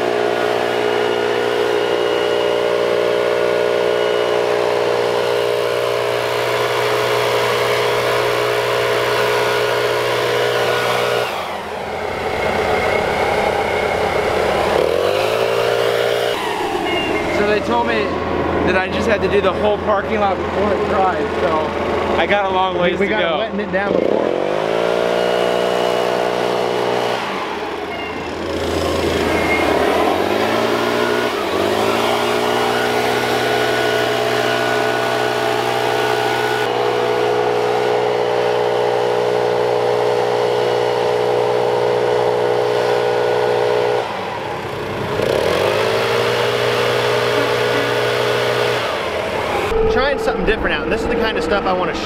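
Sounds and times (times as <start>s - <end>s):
mist blower engine drone: 0.0s - 52.0s.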